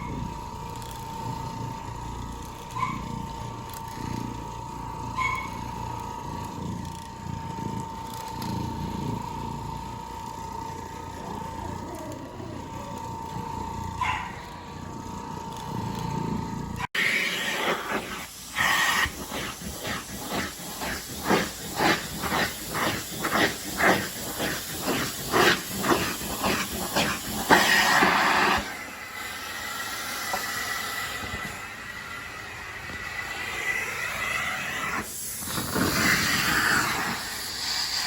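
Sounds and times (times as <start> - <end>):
carpet cleaning machine hissing: 0.0 - 38.0
rhythmic cleaning strokes: 0.0 - 38.0.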